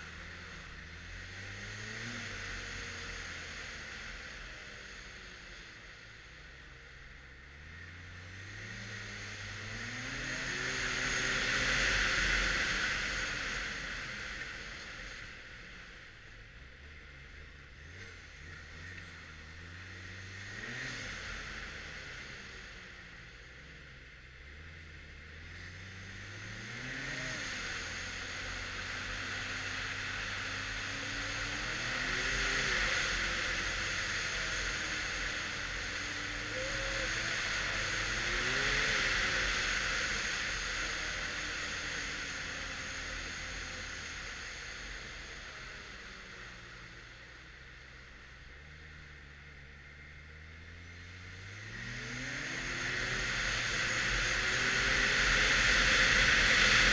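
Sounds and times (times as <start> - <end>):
snowmobile engine revving: 0.0 - 4.4, 7.8 - 15.8, 17.0 - 23.1, 24.7 - 47.0, 50.6 - 56.9.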